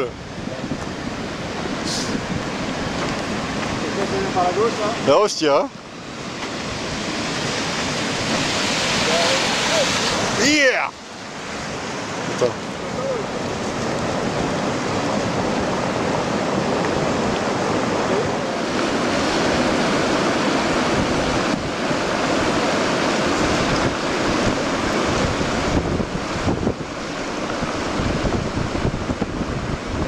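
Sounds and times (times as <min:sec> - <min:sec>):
rush of churning floodwater: 0:00.0 - 0:30.0
wind on microphone: 0:00.0 - 0:30.0.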